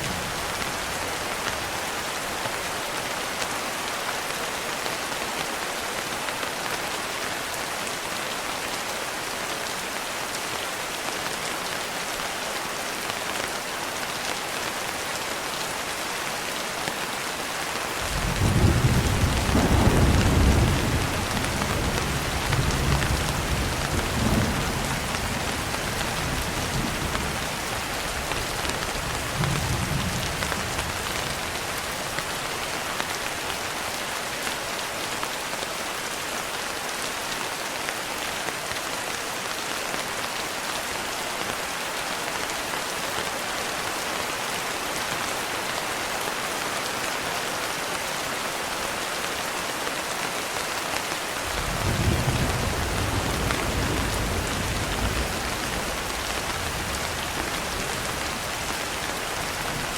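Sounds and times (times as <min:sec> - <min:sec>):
rain on a window: 0:00.0 - 0:59.9.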